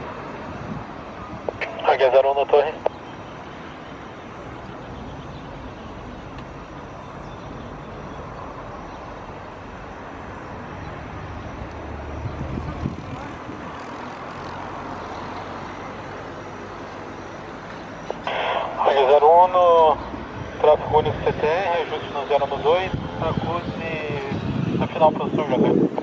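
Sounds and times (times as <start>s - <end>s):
distant jet hum: 0.0s - 26.0s.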